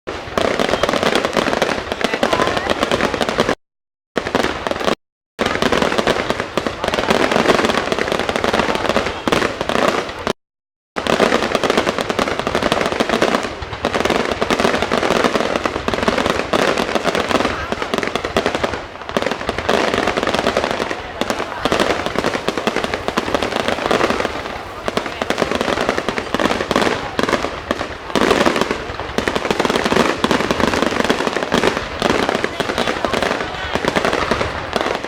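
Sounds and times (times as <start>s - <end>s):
fireworks crackling barrage: 0.1s - 3.6s, 4.2s - 10.4s, 11.0s - 35.0s.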